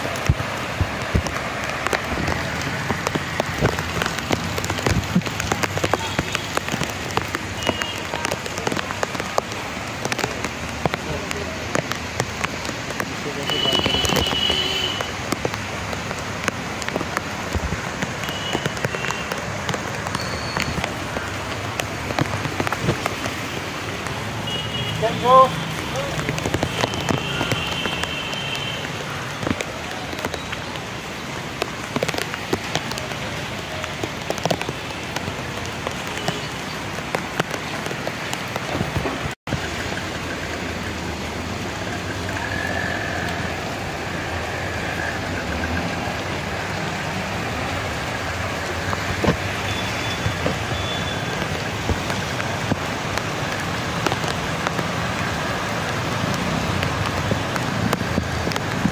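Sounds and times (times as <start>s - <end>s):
heavy rain on standing water: 0.0s - 58.9s.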